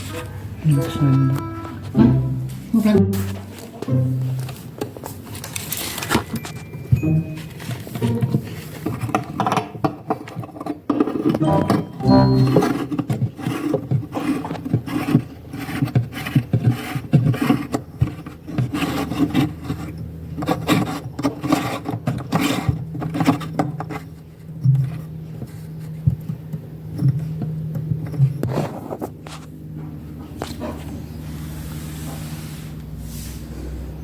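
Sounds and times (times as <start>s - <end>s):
rubbing and scraping handling noises: 0.0s - 29.6s, 30.2s - 33.9s.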